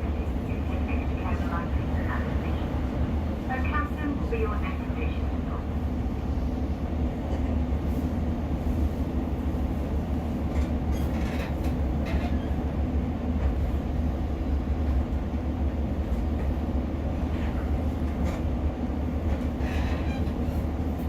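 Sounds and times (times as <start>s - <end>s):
train engine and wheel drone: 0.0s - 21.0s.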